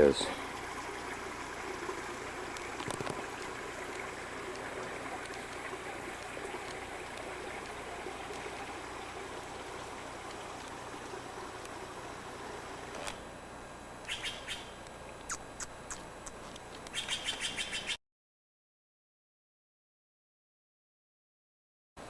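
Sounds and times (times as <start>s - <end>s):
stream trickling: 0.0s - 18.0s.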